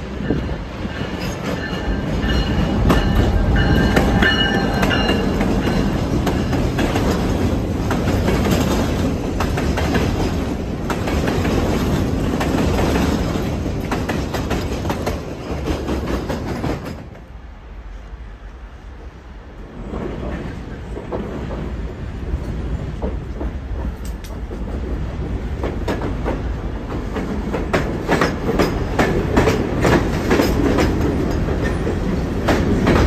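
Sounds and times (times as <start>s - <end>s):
train rumbling on track: 0.0s - 33.0s
wheels clicking over rail joints: 0.3s - 17.2s, 19.9s - 33.0s.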